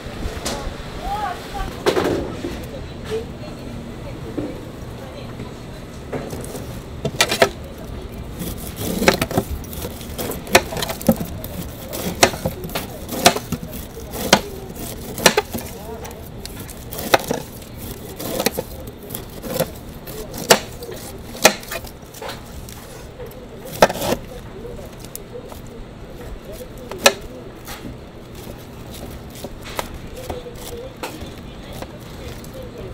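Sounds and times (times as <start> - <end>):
knife cutting pineapple rind: 6.0 - 32.9.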